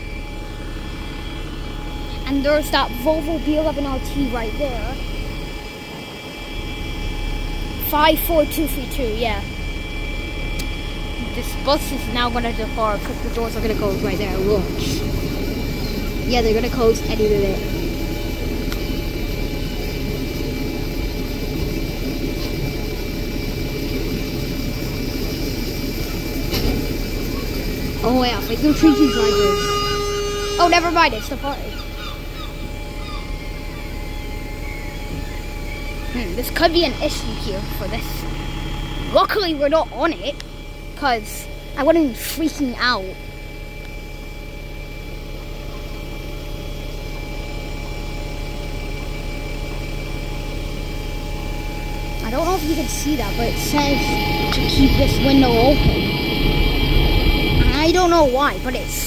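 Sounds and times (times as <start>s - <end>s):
diesel engine idling: 0.0s - 59.0s
thin high whine: 0.0s - 59.0s.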